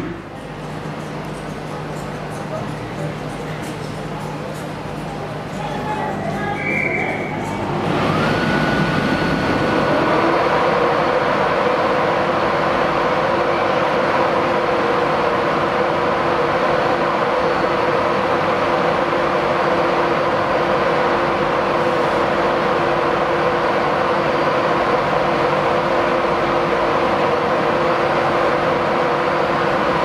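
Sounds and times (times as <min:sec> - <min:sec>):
locomotive cooling fans humming: 0:00.0 - 0:30.0.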